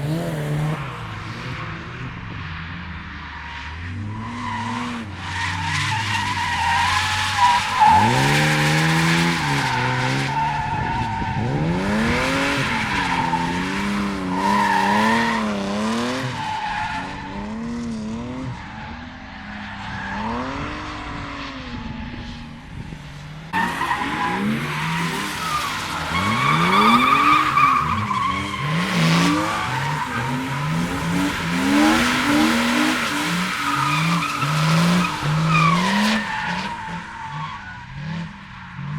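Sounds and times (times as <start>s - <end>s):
car engines revving: 0.0s - 38.9s.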